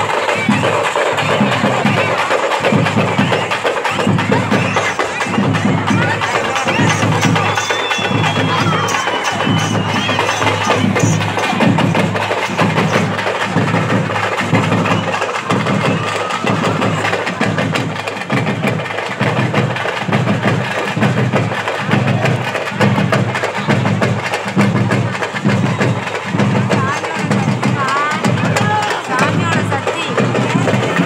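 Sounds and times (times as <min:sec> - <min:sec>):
drums beating fast rhythm: 0:00.0 - 0:31.0.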